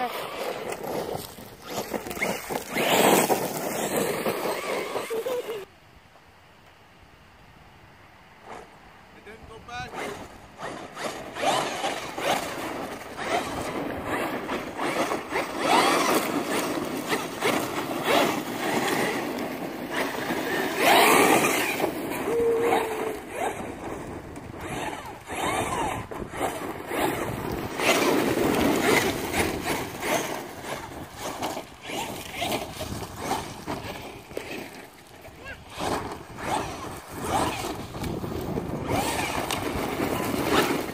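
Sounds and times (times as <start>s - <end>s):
tyres on gravel: 0.0s - 5.7s, 9.8s - 40.9s
electric motor whining: 1.6s - 5.7s, 9.8s - 34.0s, 35.6s - 40.9s.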